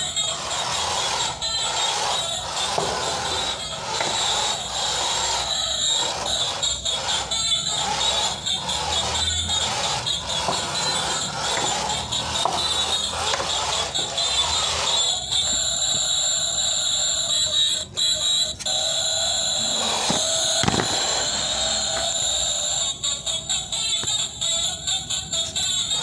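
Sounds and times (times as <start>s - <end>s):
toy truck electric motor whining: 0.0s - 26.0s.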